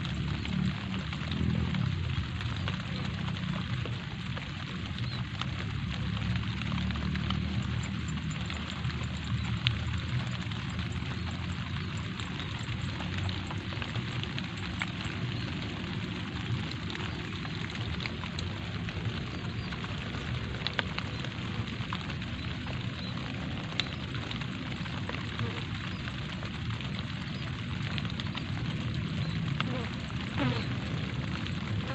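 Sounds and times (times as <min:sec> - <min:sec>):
light rain hiss: 0:00.0 - 0:31.9
rain drop ticks: 0:00.0 - 0:31.9
steady low rumble: 0:00.0 - 0:31.9.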